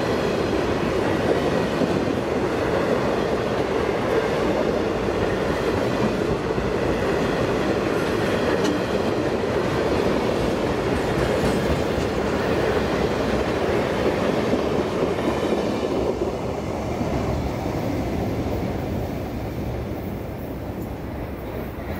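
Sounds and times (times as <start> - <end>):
freight train wheels on rails: 0.0 - 21.9.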